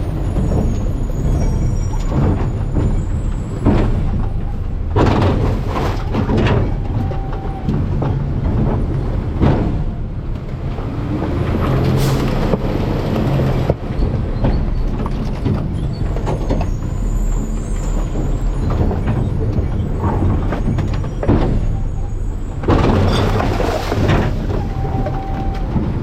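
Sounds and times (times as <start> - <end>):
diesel truck engine running: 0.0 - 26.0
hydraulic packer compacting trash: 0.0 - 26.0
trash crunching and cracking: 0.0 - 26.0.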